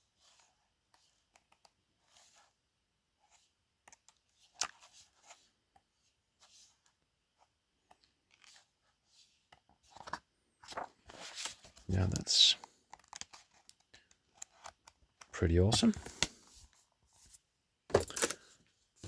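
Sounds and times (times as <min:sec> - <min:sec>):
book pages turning: 0:03.2 - 0:18.5.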